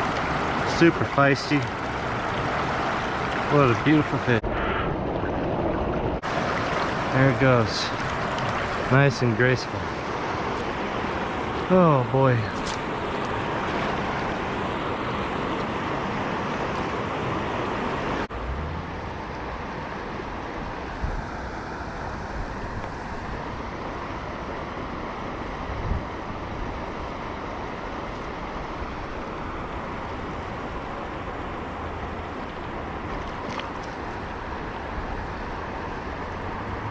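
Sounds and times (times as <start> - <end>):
flowing river water: 0.0 - 36.9.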